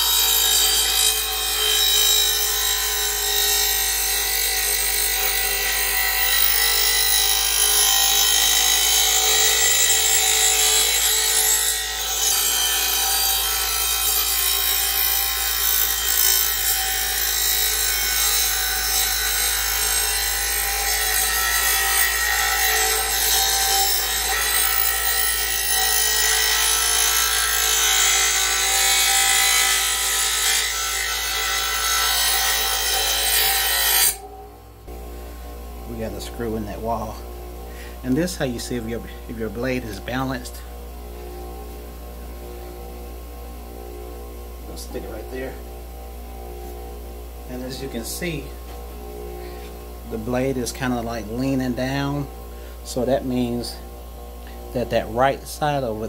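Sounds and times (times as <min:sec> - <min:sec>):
bench grinder grinding steel: 0:00.0 - 0:56.0.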